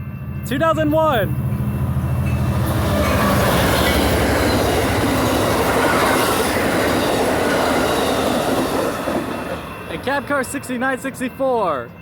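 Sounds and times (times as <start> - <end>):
diesel locomotive engine drone: 0.0 - 12.0
train wheels running on rails: 1.2 - 12.0.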